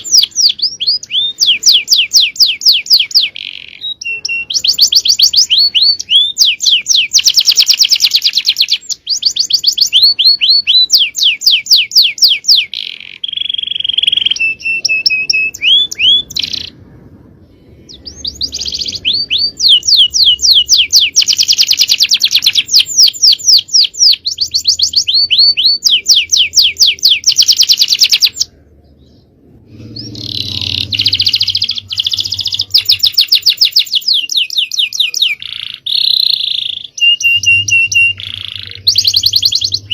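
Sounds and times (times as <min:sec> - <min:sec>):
canary singing fast trills: 0:00.0 - 0:16.8, 0:17.7 - 0:39.9.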